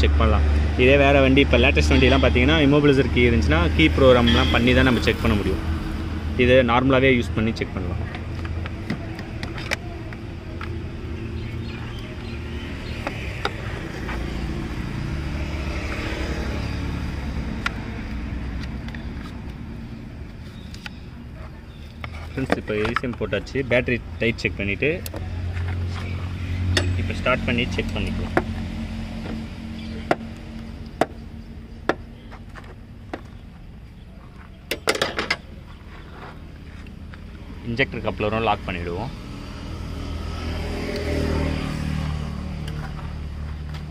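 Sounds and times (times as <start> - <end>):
motor vehicle rumbling: 0.0 - 43.9.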